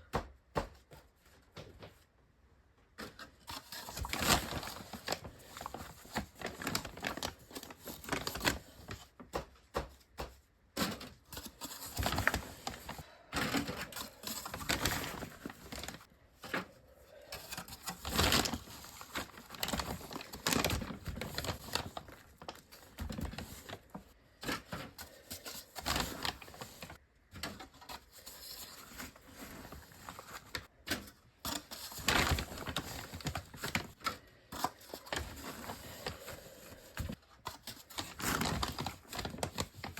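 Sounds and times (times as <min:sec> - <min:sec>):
hands crinkling and rustling: 0:02.9 - 0:16.7, 0:17.4 - 0:39.9.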